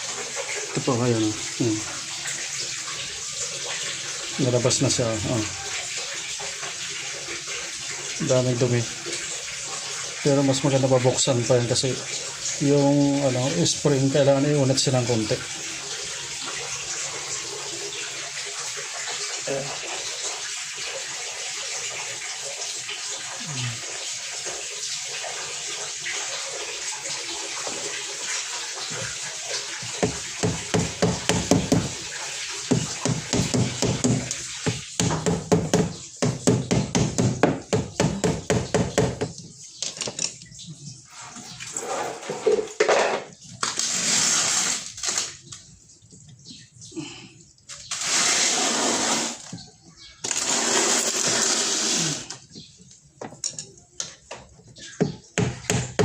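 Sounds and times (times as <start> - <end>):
water gushing from a drain: 0.0 - 53.2.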